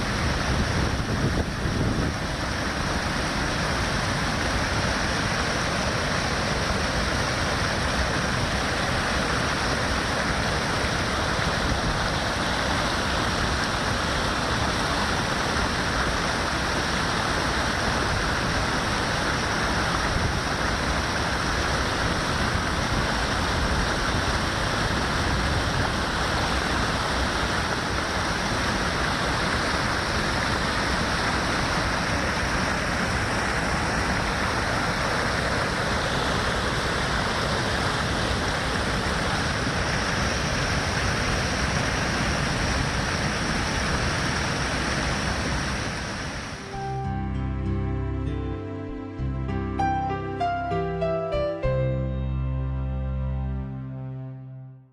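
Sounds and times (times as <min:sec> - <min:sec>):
waterfall rushing: 0:00.0 - 0:52.2.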